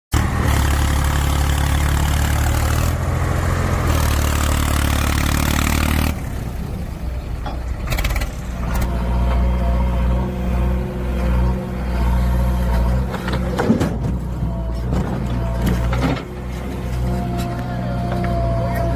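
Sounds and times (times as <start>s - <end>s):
heavy machine engine running: 0.1s - 18.9s.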